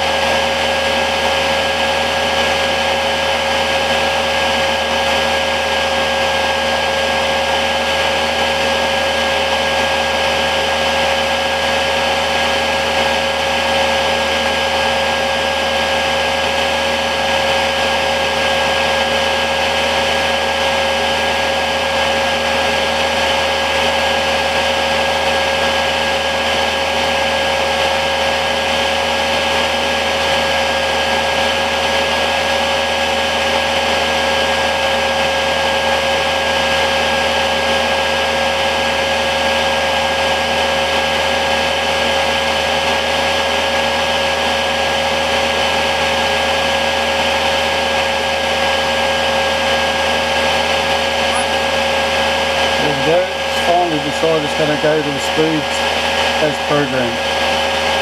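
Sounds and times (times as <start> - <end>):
heater blower fan humming: 0.0 - 58.0.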